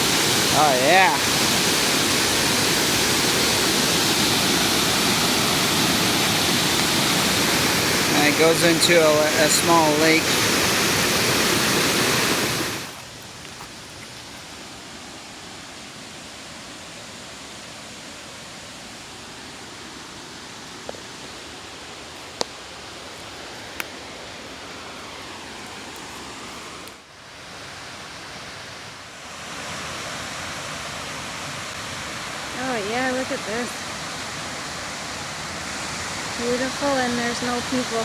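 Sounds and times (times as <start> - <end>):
waterfall rushing: 0.0 - 26.0, 29.2 - 38.0.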